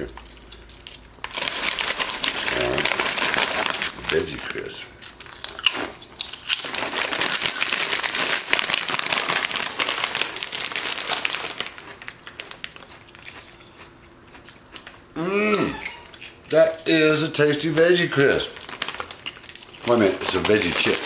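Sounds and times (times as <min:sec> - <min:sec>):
snack bag crinkling: 0:00.0 - 0:15.0, 0:18.0 - 0:21.0.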